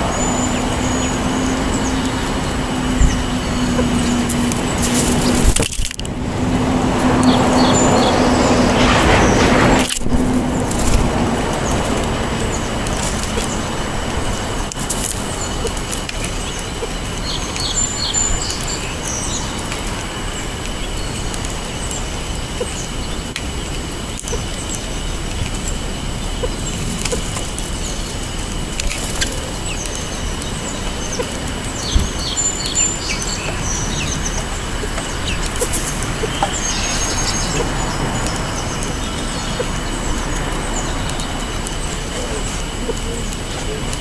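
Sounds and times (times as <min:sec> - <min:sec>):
small birds chirping: 0:00.0 - 0:06.0, 0:07.0 - 0:44.0
background hiss: 0:00.0 - 0:44.0.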